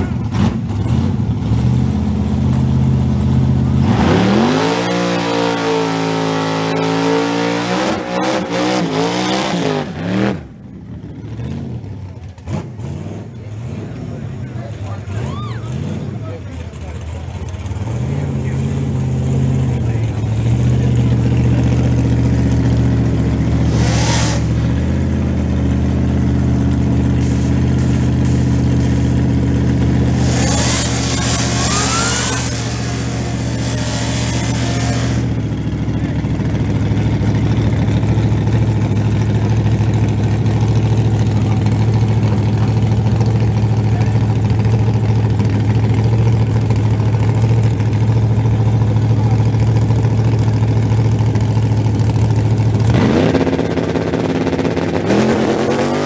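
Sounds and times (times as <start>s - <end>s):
drag-race car engines idling: 0.0s - 4.7s, 7.6s - 56.0s
engine revving: 0.0s - 10.6s, 11.2s - 36.5s, 37.1s - 56.0s.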